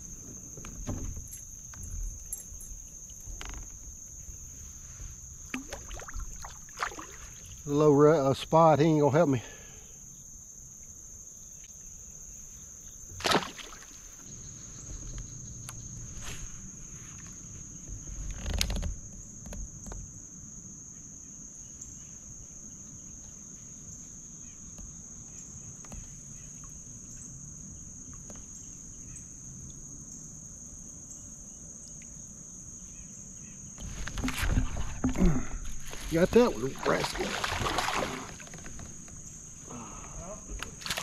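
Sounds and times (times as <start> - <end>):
high-pitched insect chorus: 0.0 - 41.0.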